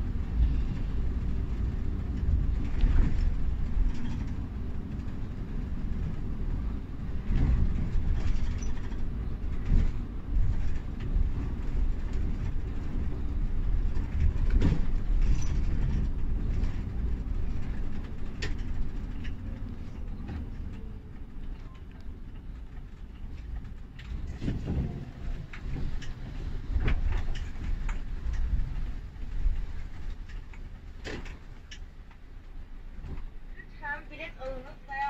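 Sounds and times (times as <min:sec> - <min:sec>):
coach engine and road rumble: 0:00.0 - 0:35.0.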